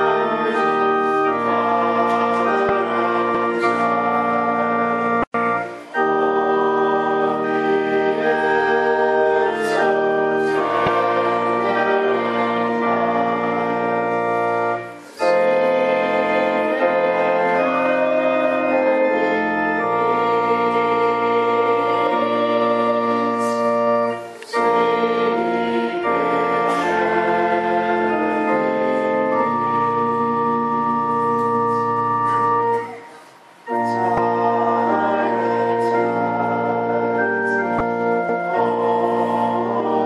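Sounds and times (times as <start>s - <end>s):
organ playing sustained chords: 0.0s - 40.0s.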